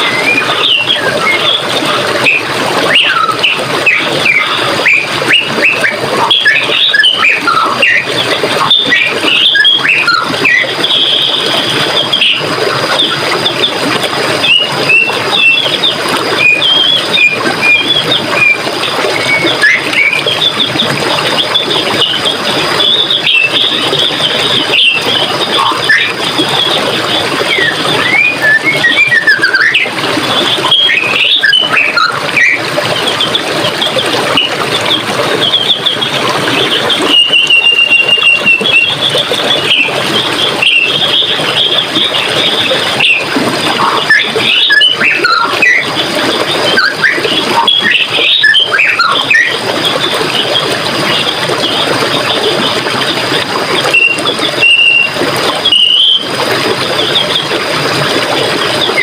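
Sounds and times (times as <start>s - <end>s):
birds singing: 0.0s - 59.0s
running water flowing: 0.0s - 59.0s.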